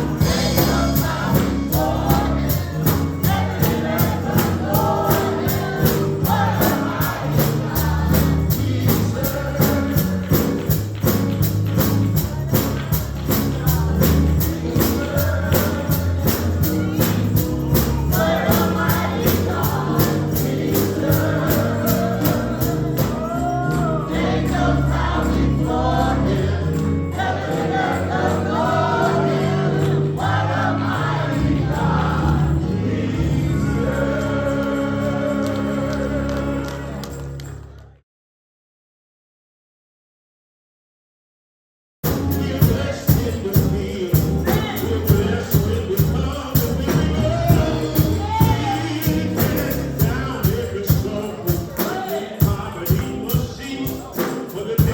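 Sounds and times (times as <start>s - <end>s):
high percussion beat: 0.0s - 36.2s, 42.0s - 54.9s
gospel choir singing with band: 0.0s - 37.5s, 42.0s - 54.9s.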